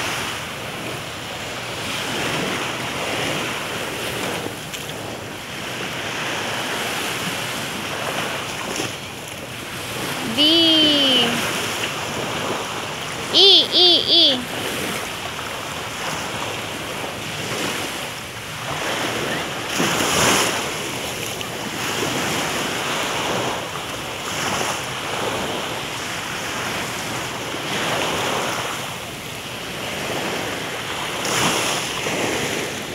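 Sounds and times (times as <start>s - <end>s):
surf washing on sandy beach: 0.0s - 32.9s.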